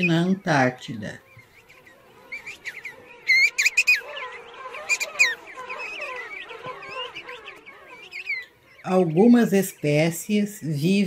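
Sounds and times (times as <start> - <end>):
penguin colony calling: 0.0 - 11.0.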